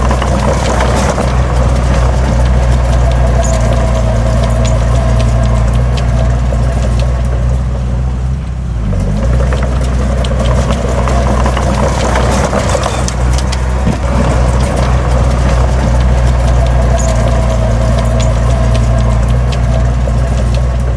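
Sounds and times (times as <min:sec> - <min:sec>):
heavy diesel engine under load: 0:00.0 - 0:20.9
metallic clanks and rattles: 0:00.0 - 0:20.9.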